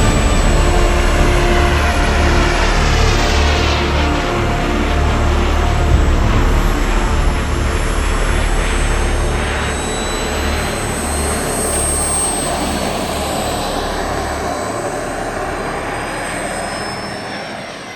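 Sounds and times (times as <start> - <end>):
model jet turbine whine: 0.0 - 17.9.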